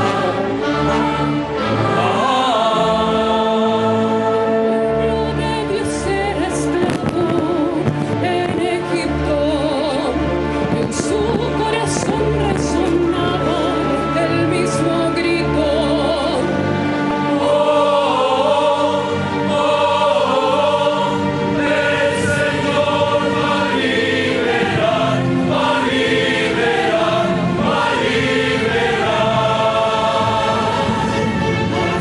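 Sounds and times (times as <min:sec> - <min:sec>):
choir singing sustained chords: 0:00.0 - 0:32.0.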